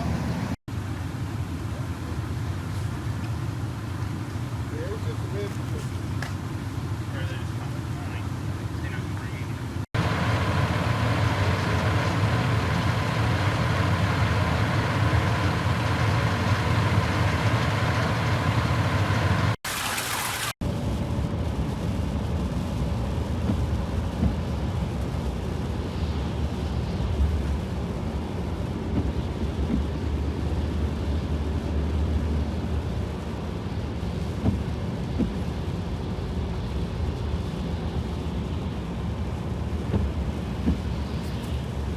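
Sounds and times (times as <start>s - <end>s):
road traffic rumble: 0.0s - 41.9s.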